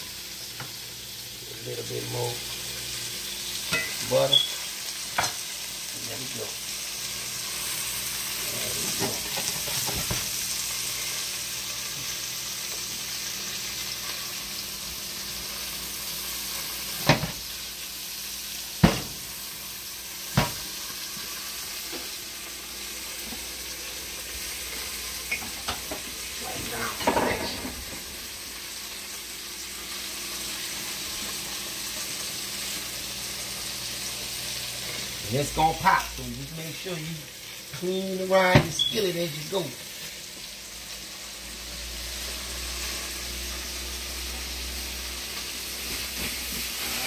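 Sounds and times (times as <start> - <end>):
chicken sizzling in a skillet: 0.0 - 47.0.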